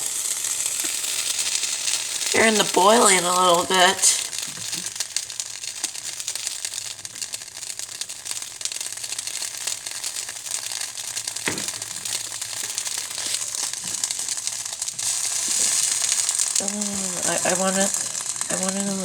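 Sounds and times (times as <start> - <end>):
water boiling with crackling hiss: 0.0 - 19.0.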